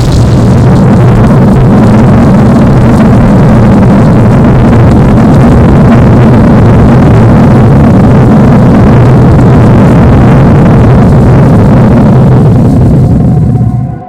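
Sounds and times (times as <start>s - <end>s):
cartoon destruction rumbling roar: 0.0s - 14.0s.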